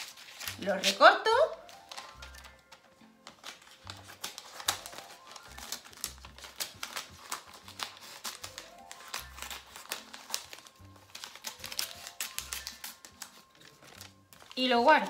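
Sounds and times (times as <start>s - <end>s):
scissors snipping paper: 0.0s - 1.0s, 1.7s - 15.0s.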